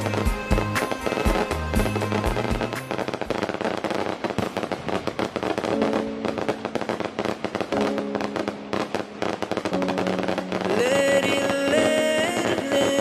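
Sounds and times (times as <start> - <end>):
firecrackers popping: 0.0 - 13.0.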